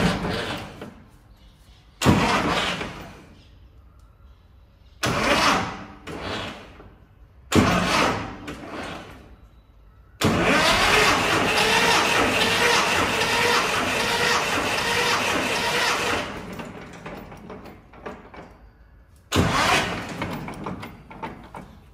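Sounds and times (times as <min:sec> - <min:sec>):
tractor engine starting: 0:00.0 - 0:01.1, 0:02.0 - 0:03.4, 0:05.0 - 0:09.4, 0:10.2 - 0:21.9.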